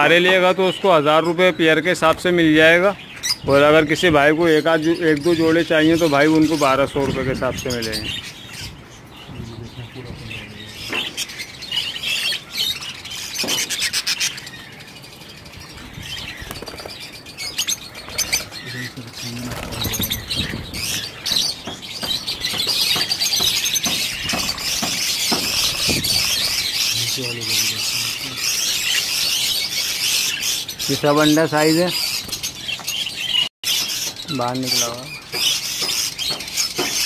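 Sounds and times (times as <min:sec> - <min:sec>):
budgerigars chattering and chirping: 0:00.0 - 0:37.0
sharp bird calls: 0:00.0 - 0:37.0.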